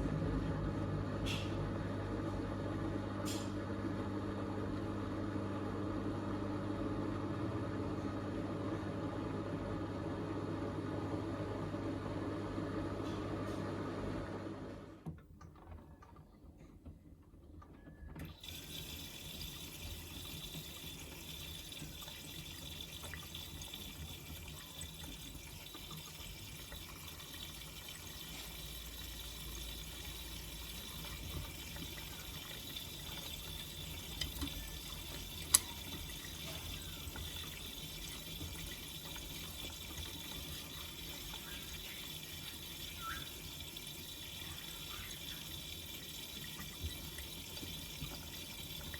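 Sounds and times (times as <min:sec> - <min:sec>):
water rushing into washing machine: 0:00.0 - 0:15.4, 0:17.8 - 0:48.9.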